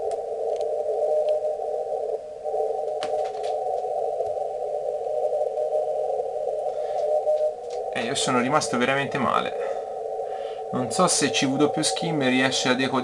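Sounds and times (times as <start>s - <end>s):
radio receiver hiss: 0.0s - 13.0s.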